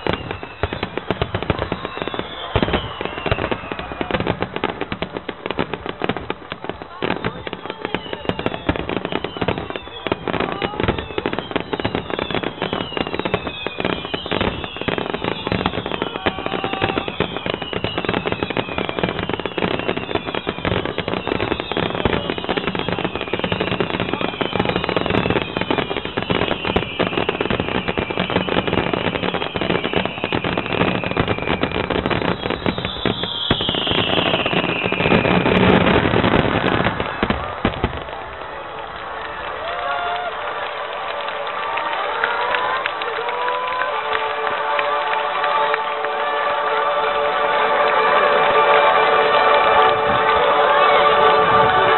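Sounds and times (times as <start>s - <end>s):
fireworks whistles falling in pitch: 0.0s - 40.5s, 41.8s - 51.9s
fireworks crackling and banging: 0.0s - 51.9s.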